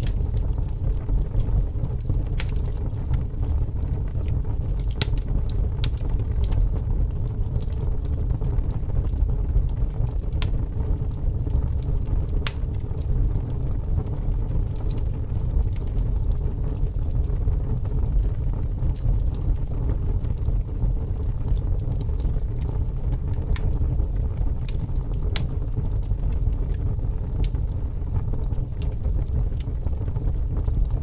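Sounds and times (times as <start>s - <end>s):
fire crackling and popping: 0.0s - 31.0s
fire rumbling: 0.0s - 31.0s.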